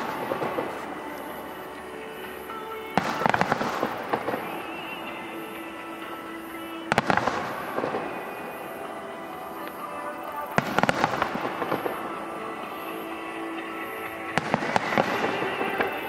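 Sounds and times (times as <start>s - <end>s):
music playing: 0.0s - 16.0s.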